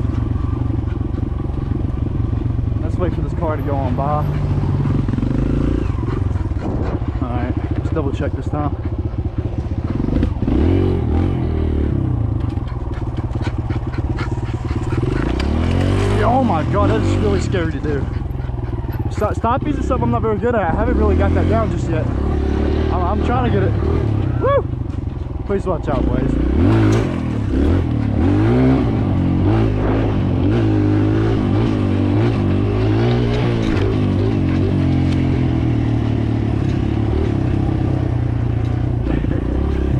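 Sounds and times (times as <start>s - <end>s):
dirt bike engine revving: 0.0s - 39.9s
motorbike rattles and clicks: 0.0s - 39.9s.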